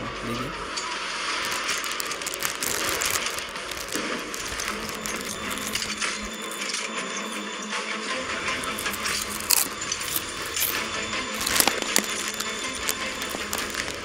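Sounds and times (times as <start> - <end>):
chips being crunched: 1.3 - 7.4, 8.2 - 14.0
plastic chip packet crinkling: 1.3 - 7.4, 8.2 - 14.0.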